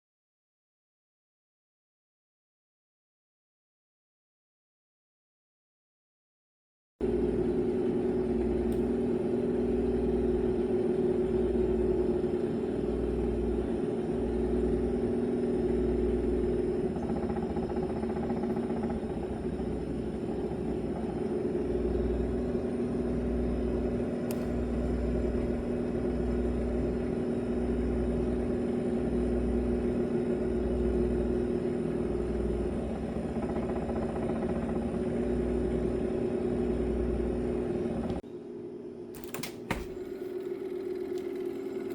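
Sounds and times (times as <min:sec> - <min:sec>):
freezer humming: 0:07.0 - 0:41.9.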